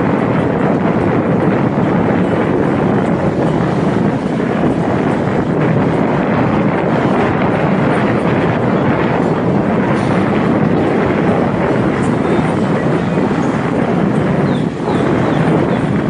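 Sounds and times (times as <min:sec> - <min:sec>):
motorcycle engine drone: 0:00.0 - 0:16.0
wind buffeting microphone: 0:00.0 - 0:16.0.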